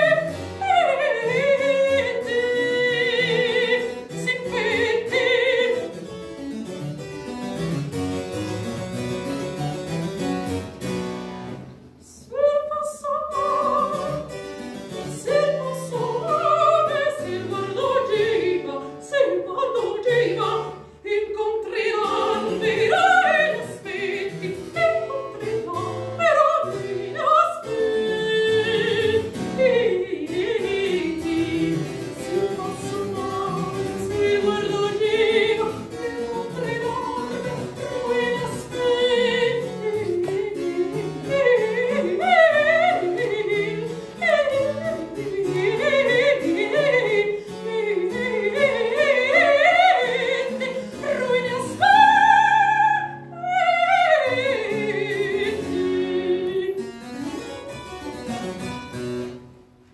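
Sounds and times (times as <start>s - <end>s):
soprano singing aria: 0.0s - 6.2s, 11.9s - 58.1s
keyboard accompaniment: 0.0s - 12.0s, 13.2s - 59.9s.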